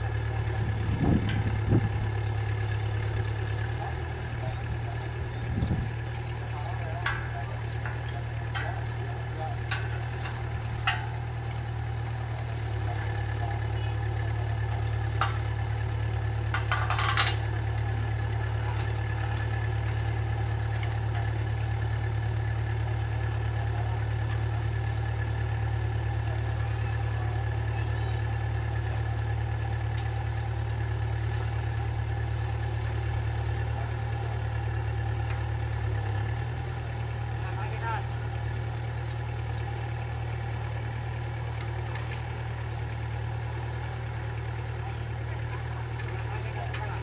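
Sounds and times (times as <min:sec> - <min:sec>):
diesel excavator engine humming: 0:00.0 - 0:47.0.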